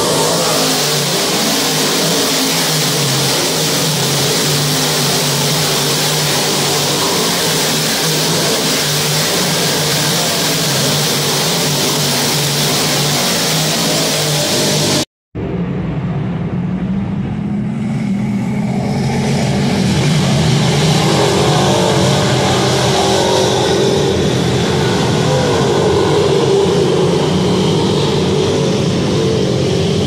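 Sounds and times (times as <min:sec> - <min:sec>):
race car engines roaring: 0:00.0 - 0:30.0.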